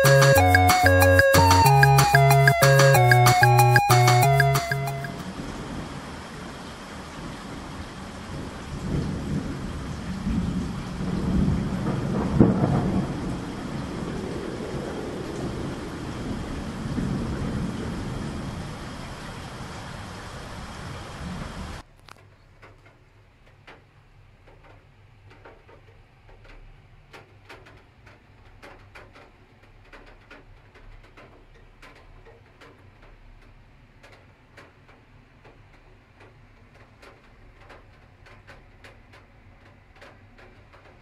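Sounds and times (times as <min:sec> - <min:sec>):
rain tapping on window glass: 0:00.0 - 0:41.0.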